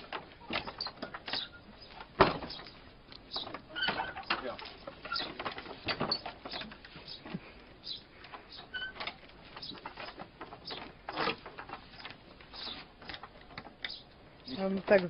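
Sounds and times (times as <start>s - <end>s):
dog paws tapping on wooden boards: 0.0s - 15.0s.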